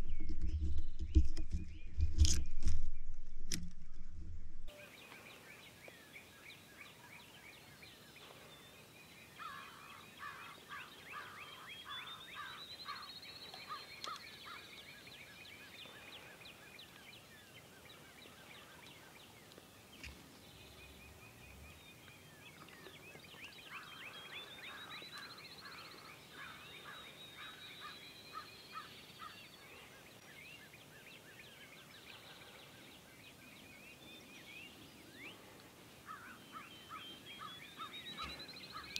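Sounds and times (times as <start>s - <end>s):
faint bird chirps: 4.7s - 38.9s.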